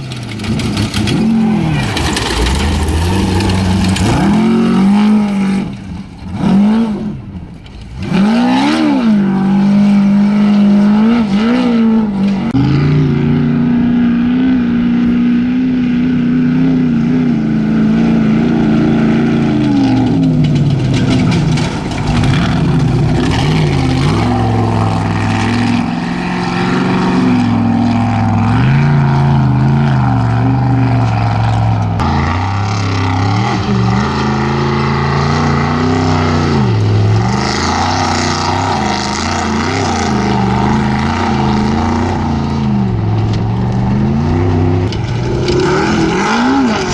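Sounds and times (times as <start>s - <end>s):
race vehicle engine revving: 0.0s - 46.9s.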